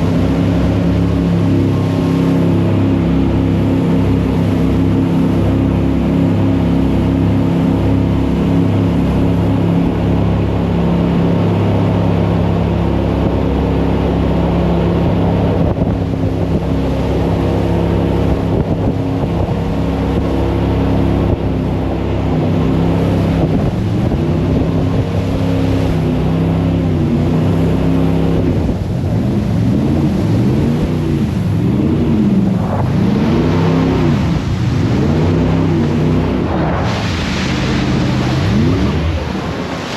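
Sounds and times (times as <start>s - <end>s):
jet boat engine droning: 0.0s - 39.9s
rushing water: 0.0s - 39.9s
rushing wind: 0.0s - 39.9s.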